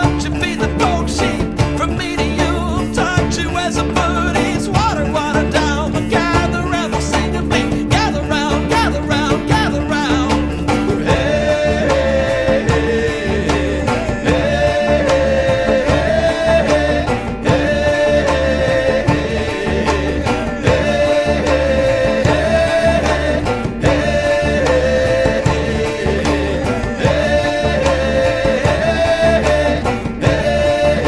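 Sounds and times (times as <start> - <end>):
country band music: 0.0 - 31.0.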